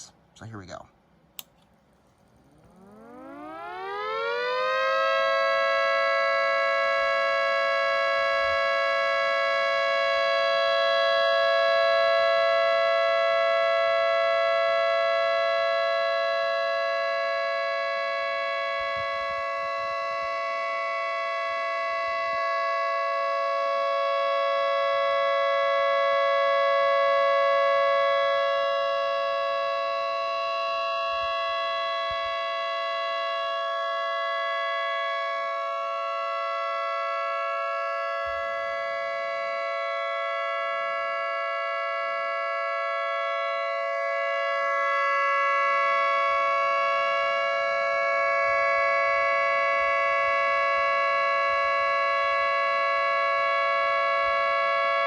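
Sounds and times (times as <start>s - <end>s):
two-tone electric siren: 2.3s - 55.0s.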